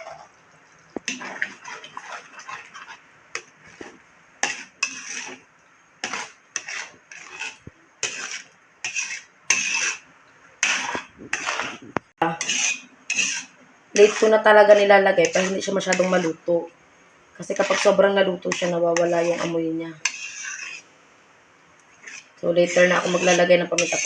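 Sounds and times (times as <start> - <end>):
utensil scraping frying pan: 1.0 - 16.6, 17.4 - 20.9, 21.9 - 24.0.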